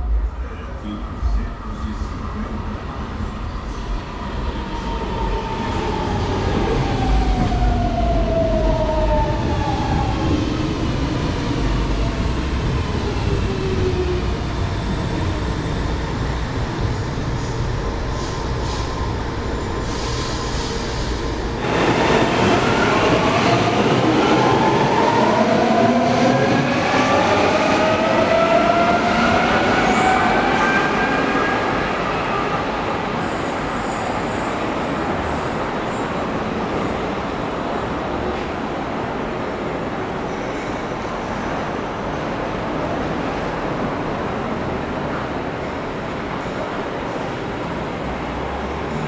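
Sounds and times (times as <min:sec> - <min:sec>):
low train rumble: 0:00.0 - 0:49.0.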